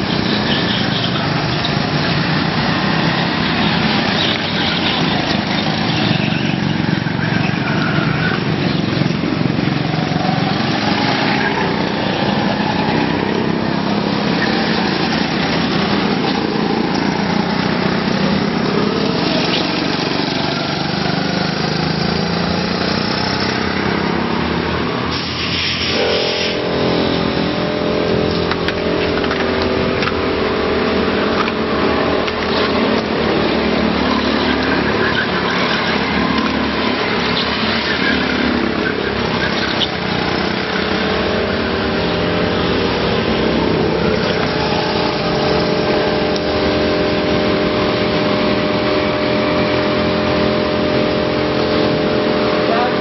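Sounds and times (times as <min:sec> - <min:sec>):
go-kart engines droning: 0:00.0 - 0:53.0
steady engine tone: 0:00.0 - 0:53.0.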